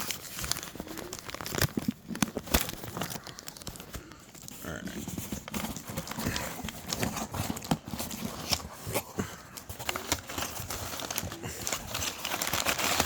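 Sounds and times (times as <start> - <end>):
packing material rustling: 0.0 - 13.0.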